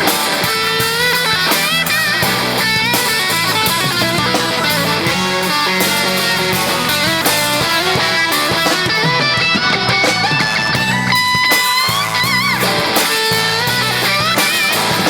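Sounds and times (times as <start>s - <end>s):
bass: 0.0s - 15.0s
drum kit: 0.0s - 15.0s
electric guitar: 0.0s - 15.0s.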